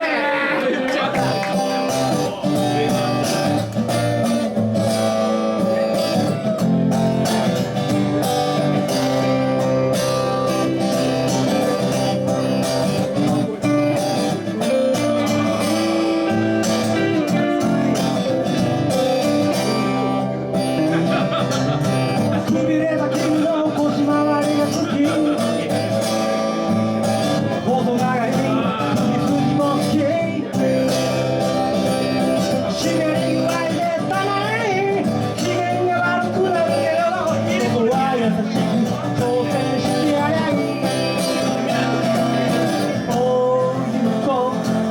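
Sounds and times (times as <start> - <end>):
live guitar band music: 0.8 - 44.9.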